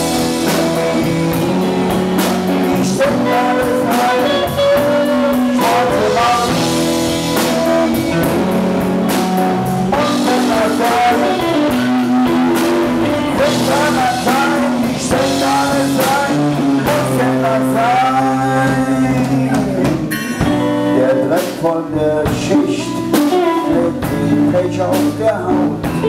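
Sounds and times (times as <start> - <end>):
bass guitar: 0.0 - 26.0
drum kit: 0.0 - 26.0
electric guitar bending notes: 0.0 - 26.0.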